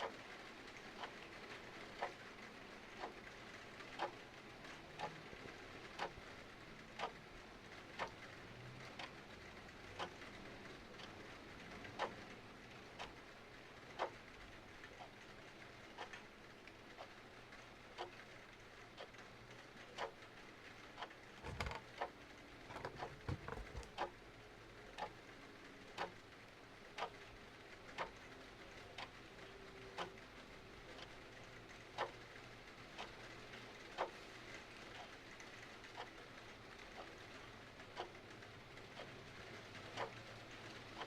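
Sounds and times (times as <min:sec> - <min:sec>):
clock ticking: 0:00.0 - 0:41.0.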